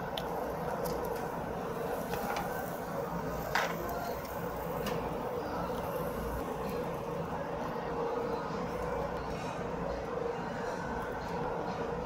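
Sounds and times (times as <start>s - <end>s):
restaurant room noise: 0.0s - 12.0s
smoke hood fan humming: 0.0s - 12.0s.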